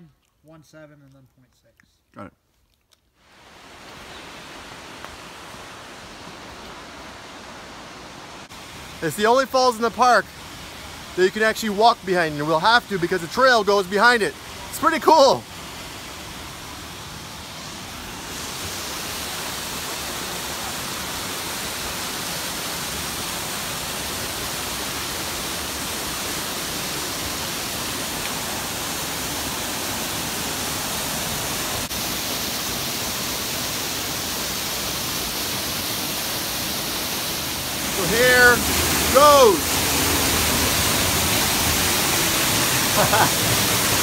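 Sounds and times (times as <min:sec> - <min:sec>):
waterfall rushing: 0:03.2 - 0:44.0.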